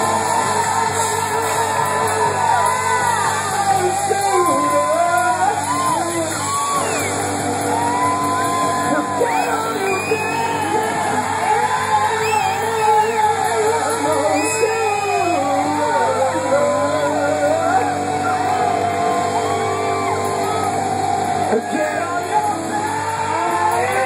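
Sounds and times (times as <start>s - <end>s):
live hard rock band: 0.0s - 24.0s
sung and shouted vocals: 0.0s - 24.0s.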